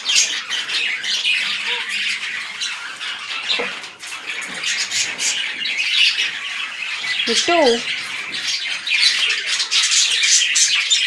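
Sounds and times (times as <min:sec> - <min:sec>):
parrots chattering and squawking: 0:00.0 - 0:11.0.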